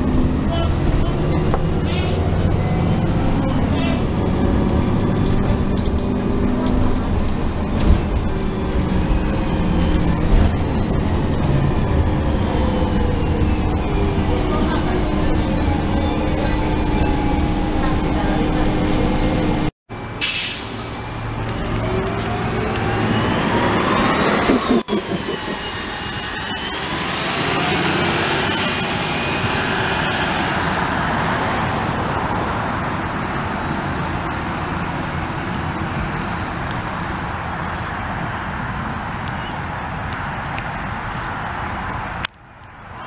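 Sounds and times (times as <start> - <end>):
bus engine whine: 0.0 - 43.0
street hum: 0.0 - 43.0.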